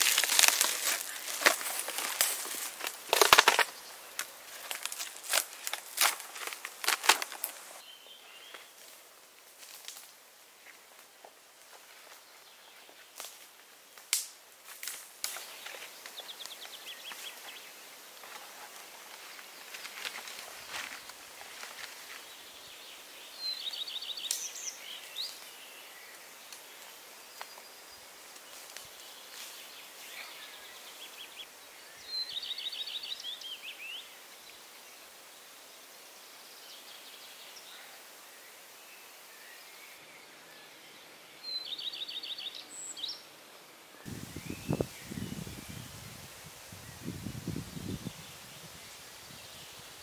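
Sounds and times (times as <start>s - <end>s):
faint forest ambience hiss: 0.0s - 50.0s.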